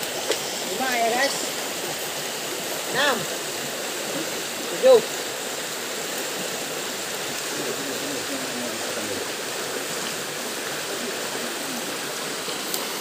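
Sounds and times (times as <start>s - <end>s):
flowing stream water: 0.0s - 13.0s.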